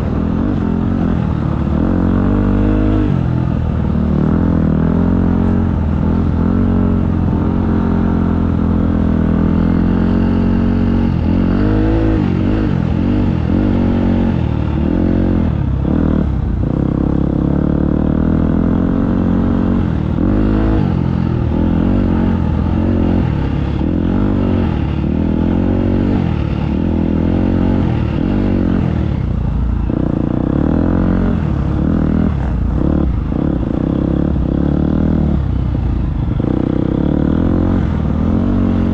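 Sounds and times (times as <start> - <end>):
dirt bike engine revving: 0.0 - 35.4, 36.0 - 38.9.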